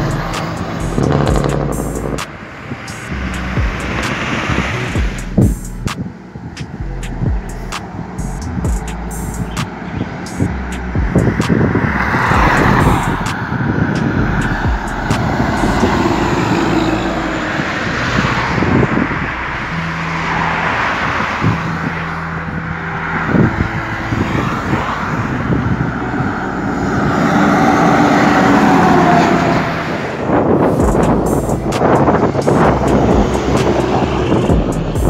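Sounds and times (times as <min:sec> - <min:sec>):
cars driving past: 0:00.0 - 0:35.0
truck driving past: 0:00.0 - 0:35.0.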